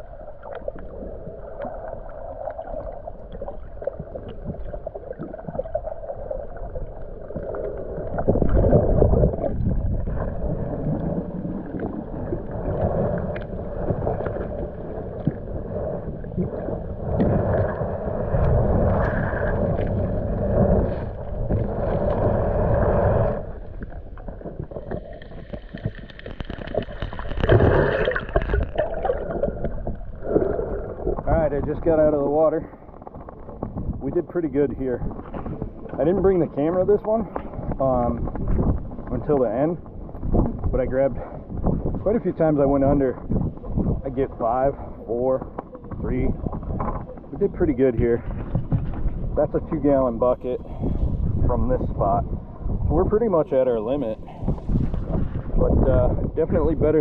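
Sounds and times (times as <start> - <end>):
muffled underwater bubbling: 0.0 - 57.0.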